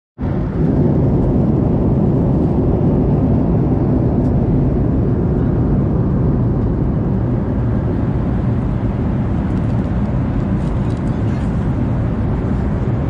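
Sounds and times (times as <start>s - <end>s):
airplane cabin drone: 0.2s - 13.0s.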